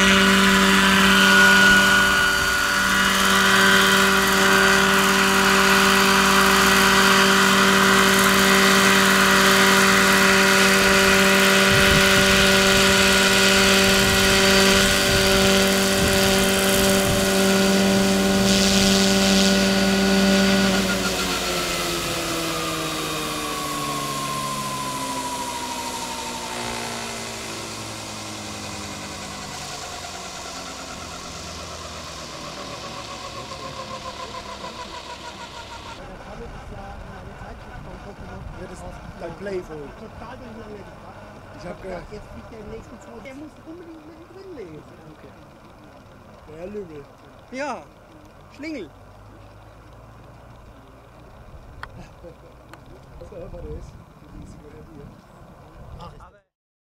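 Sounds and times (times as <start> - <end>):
model helicopter rotors and motor whine: 0.0 - 56.5.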